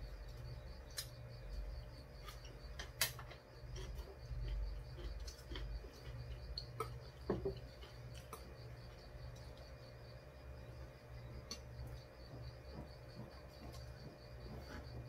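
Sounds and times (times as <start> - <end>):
faint high pulsing chirping: 0.0 - 15.0.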